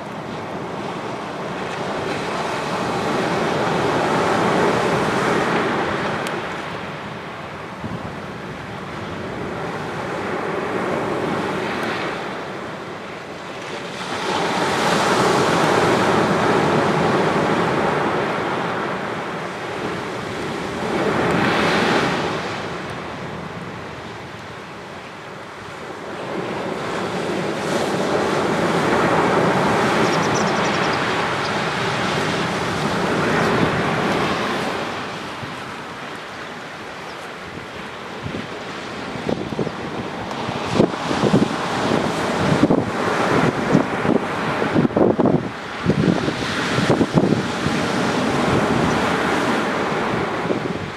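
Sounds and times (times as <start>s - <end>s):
waves breaking on a beach: 0.0s - 50.9s.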